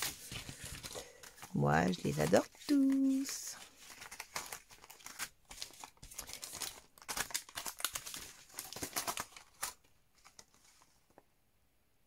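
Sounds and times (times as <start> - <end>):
plastic sleeves crinkling: 0.0 - 11.2.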